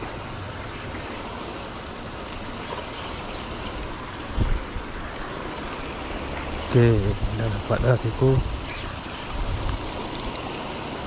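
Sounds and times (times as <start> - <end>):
paddlewheel aerator churning: 0.0 - 11.0.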